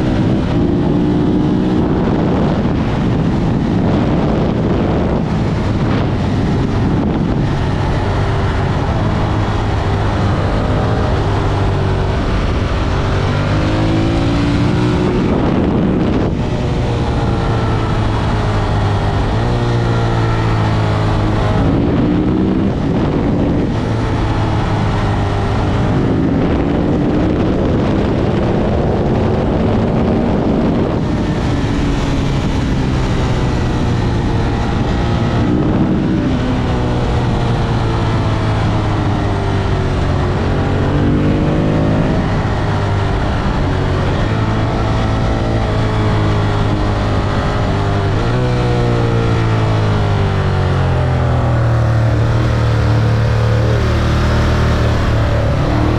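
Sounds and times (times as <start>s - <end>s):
motorcycle engine revving: 0.0s - 55.9s
wind rushing over microphone: 0.0s - 55.9s.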